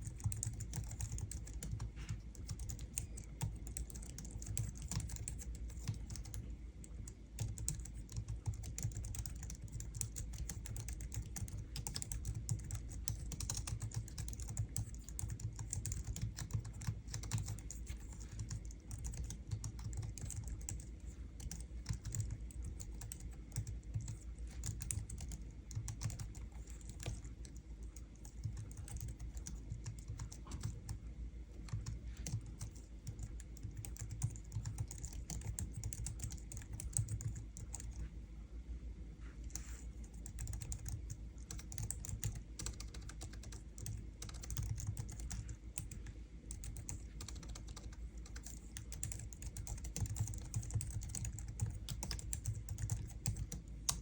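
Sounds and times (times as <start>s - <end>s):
fast typing on keyboard: 0.0s - 38.1s, 39.5s - 54.0s.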